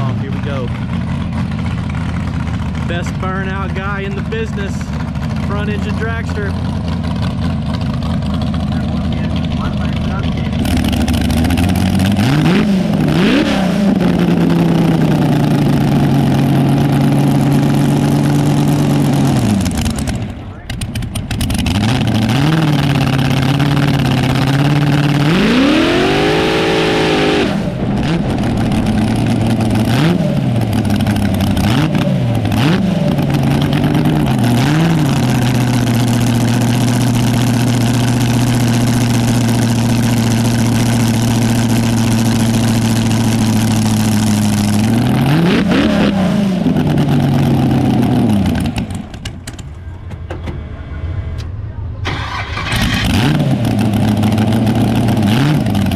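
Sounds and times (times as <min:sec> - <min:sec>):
dragster engine idling and revving: 0:00.0 - 0:55.9.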